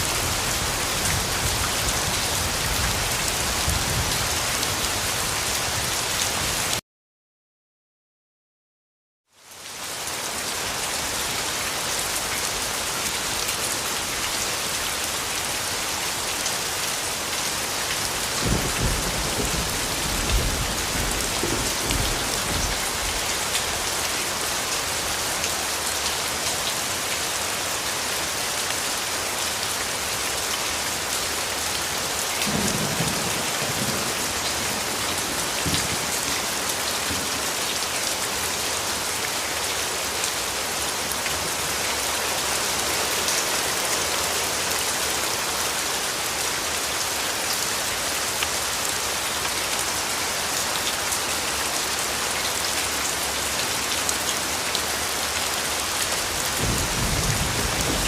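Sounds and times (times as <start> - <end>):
heavy rain falling: 0.0 - 6.8, 9.4 - 58.0.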